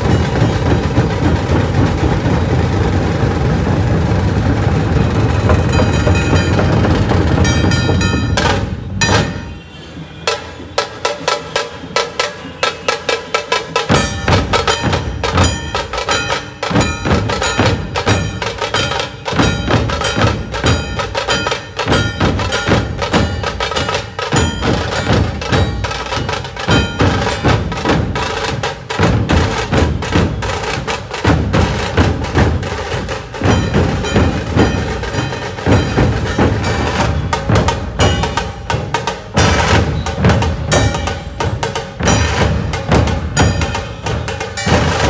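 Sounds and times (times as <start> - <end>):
deep barrel drum beats: 0.0 - 9.6, 10.3 - 45.0.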